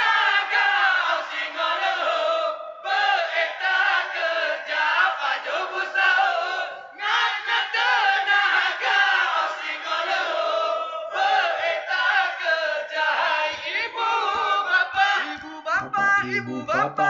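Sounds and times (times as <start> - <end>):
men singing and chanting into microphone: 0.0 - 17.0.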